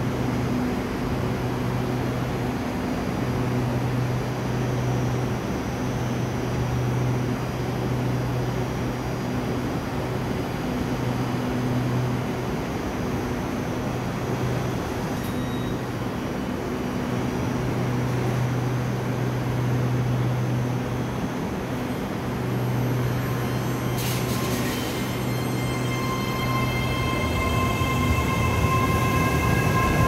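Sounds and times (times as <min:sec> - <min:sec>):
train equipment low hum: 0:00.0 - 0:30.0.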